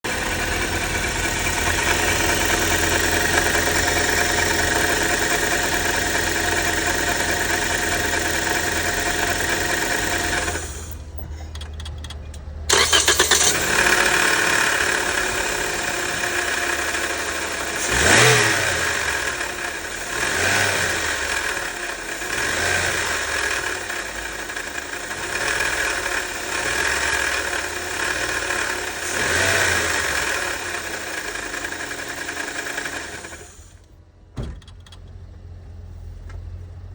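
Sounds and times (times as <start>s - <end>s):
car engine running: 0.0s - 36.9s.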